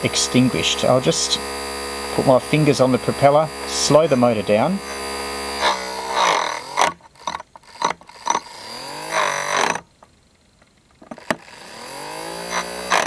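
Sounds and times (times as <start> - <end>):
toy motor whine: 0.0 - 9.9, 11.1 - 13.0.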